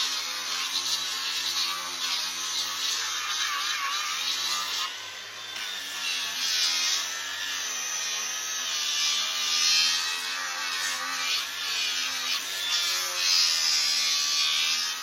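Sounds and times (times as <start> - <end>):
tool rasping on hoof: 0.0 - 15.0.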